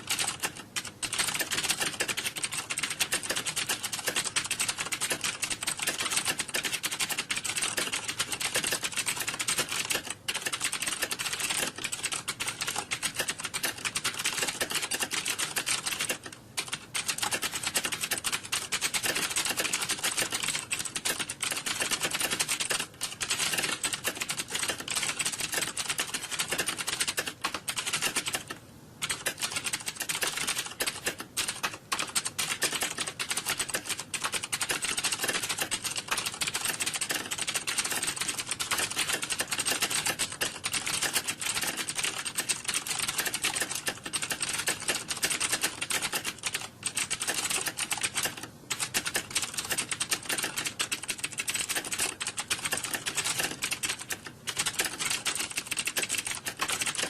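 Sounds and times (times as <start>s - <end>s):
typing on computer keyboard: 0.0s - 57.0s.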